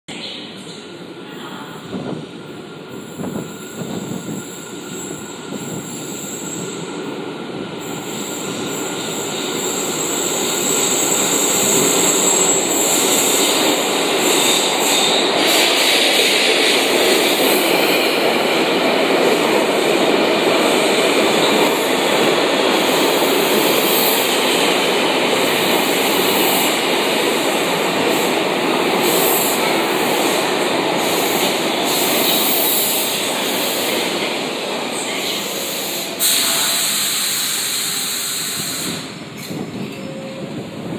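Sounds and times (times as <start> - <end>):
train wheels running on rail: 0.1 - 40.9.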